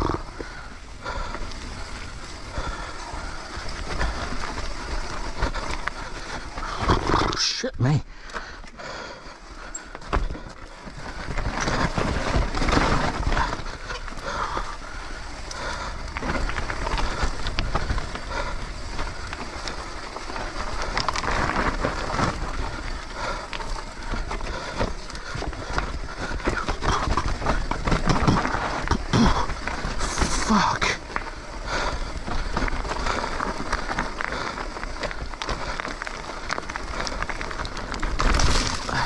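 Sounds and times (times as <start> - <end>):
stones and bike parts rattling: 0.0 - 7.6, 8.2 - 39.0
bike tyres on gravel and dirt: 0.0 - 39.0.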